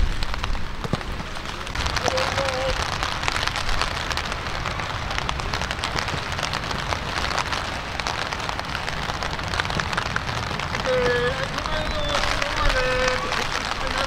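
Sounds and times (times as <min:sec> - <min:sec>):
raindrop taps: 0:00.0 - 0:14.0
steady rain hiss: 0:00.0 - 0:14.0.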